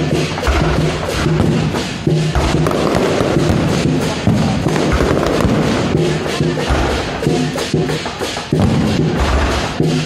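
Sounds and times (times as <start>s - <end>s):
fireworks crackling and popping: 0.0s - 10.0s
loud music: 0.0s - 10.0s.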